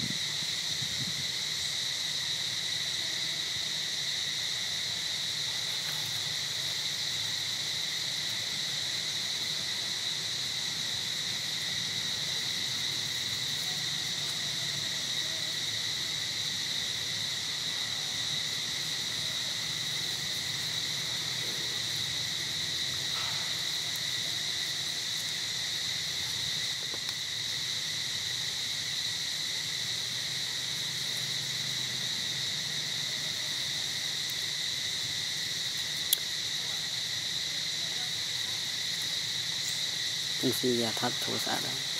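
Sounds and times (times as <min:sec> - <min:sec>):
insects droning: 0:00.0 - 0:41.9.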